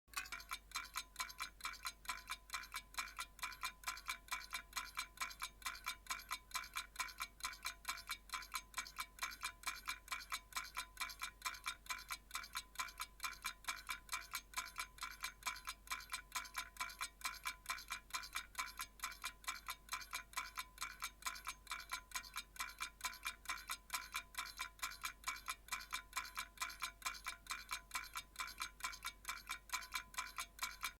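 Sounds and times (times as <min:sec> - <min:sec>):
alarm clock ticking: 0:00.1 - 0:30.9.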